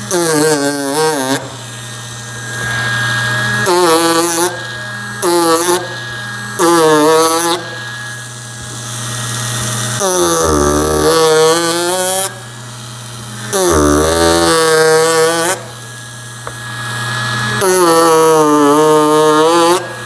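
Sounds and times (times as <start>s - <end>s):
power carver motor humming: 0.0s - 20.0s.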